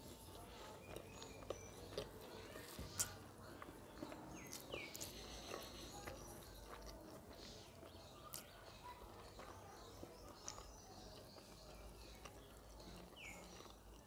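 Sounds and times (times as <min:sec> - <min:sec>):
fingers mixing rice on a plate: 0:00.0 - 0:14.0.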